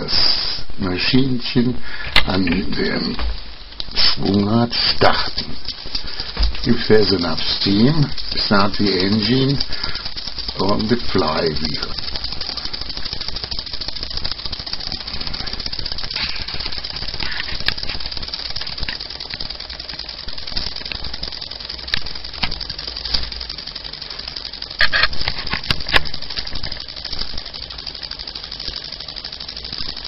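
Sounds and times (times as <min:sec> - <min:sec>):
model steam engine hissing: 0:00.0 - 0:30.0
sharp clicks: 0:01.9 - 0:30.0.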